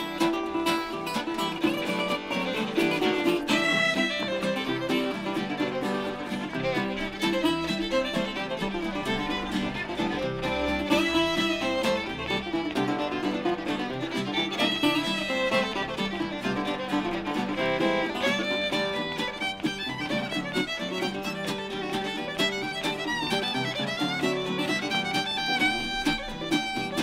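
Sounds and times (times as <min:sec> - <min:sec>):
fiddle playing lead: 0:00.0 - 0:27.0
resonator guitar: 0:00.0 - 0:27.0
strummed acoustic guitar: 0:00.0 - 0:27.0.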